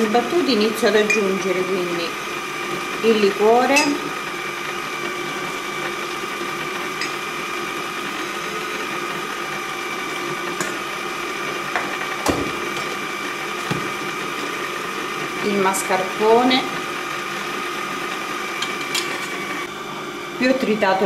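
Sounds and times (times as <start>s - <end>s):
electric stand mixer humming: 0.0s - 21.0s.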